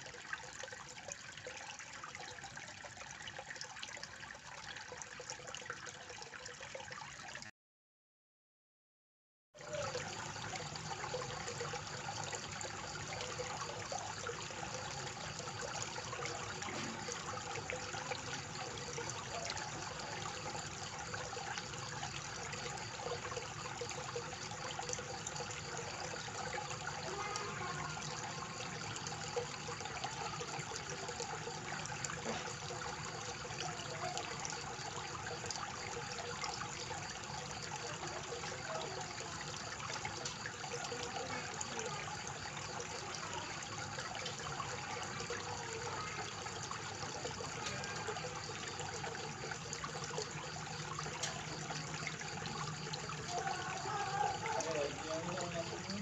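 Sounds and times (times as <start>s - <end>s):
fountain water splashing: 9.6s - 56.0s.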